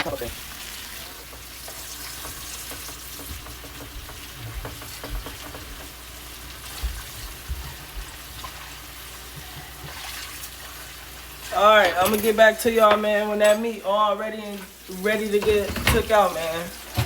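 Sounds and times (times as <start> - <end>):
meat sizzling in a pan: 0.1 - 11.9, 14.0 - 17.0.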